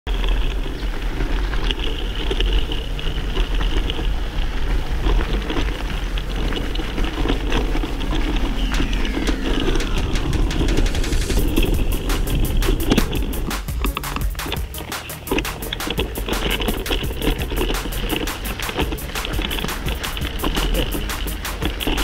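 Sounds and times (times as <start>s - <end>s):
bike rattling with small clicks: 0.1s - 22.0s
bike tyres crunching on gravel: 0.1s - 22.0s
wind rumble on microphone: 0.1s - 22.0s.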